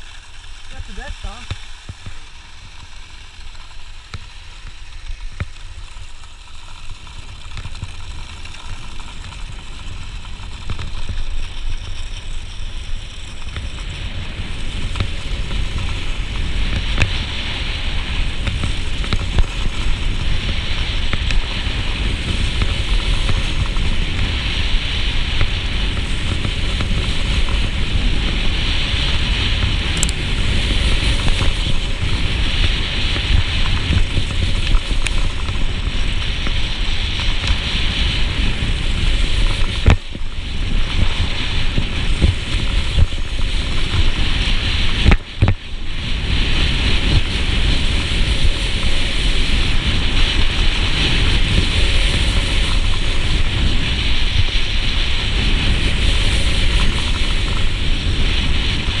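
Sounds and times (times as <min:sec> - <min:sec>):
ski hissing and scraping on snow: 0:00.0 - 0:59.0
wind rumbling on microphone: 0:00.0 - 0:59.0.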